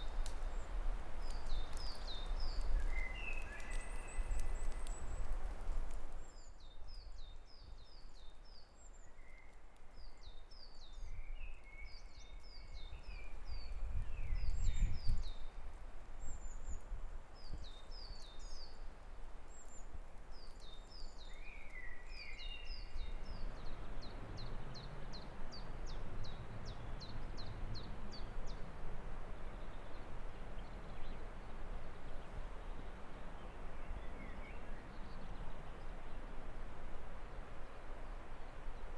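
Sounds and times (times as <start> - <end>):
low wind rumble: 0.0 - 6.3, 12.6 - 38.9
songbirds chirping: 0.0 - 38.9.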